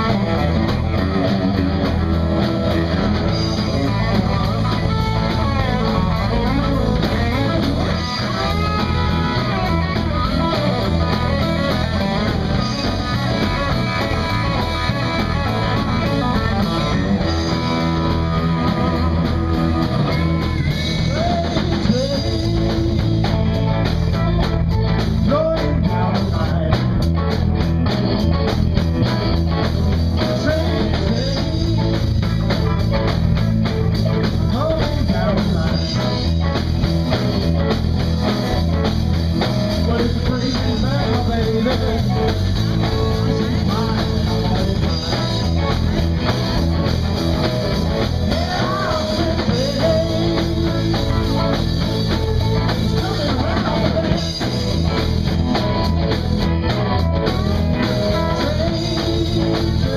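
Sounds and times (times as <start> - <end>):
drum kit: 0.0 - 59.9
electric bass: 0.0 - 59.9
electric guitars: 0.0 - 59.9.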